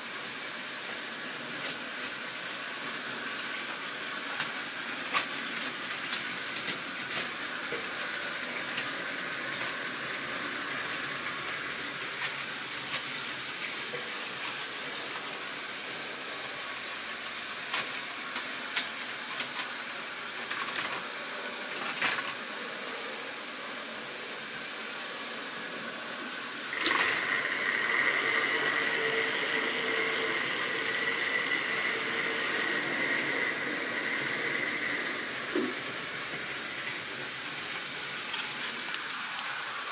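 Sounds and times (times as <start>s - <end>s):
model train motor whining: 0.0s - 39.9s.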